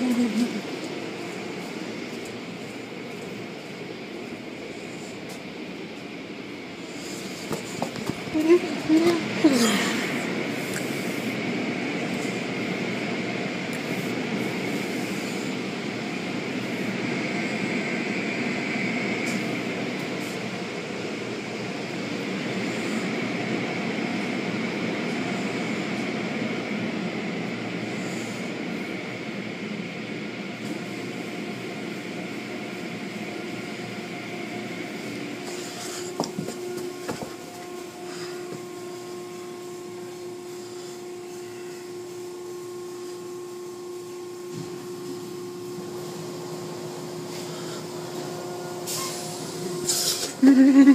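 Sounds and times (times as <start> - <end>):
high steady whine: 0.0 - 50.9.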